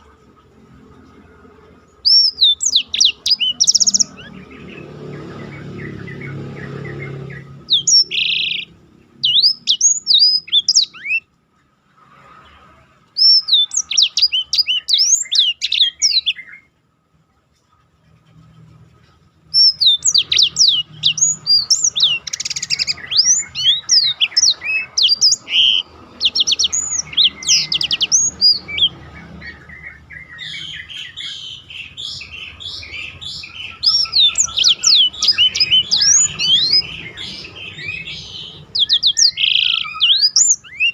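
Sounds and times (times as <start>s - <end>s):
canary singing: 0.0s - 16.8s, 18.3s - 40.9s.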